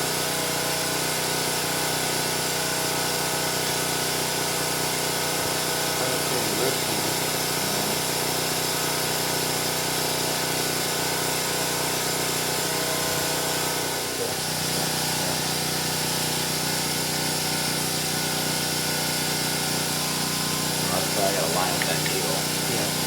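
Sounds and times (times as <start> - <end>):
motor humming: 1.8 - 23.0.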